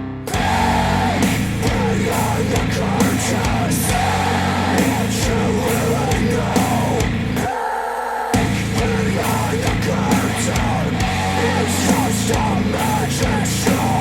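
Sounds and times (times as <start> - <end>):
heavy rock music with vocals: 0.2 - 14.0.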